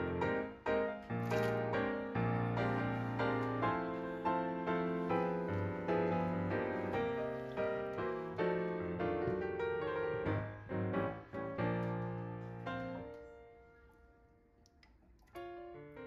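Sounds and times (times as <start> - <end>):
piano music: 0.0 - 14.4, 15.3 - 16.0.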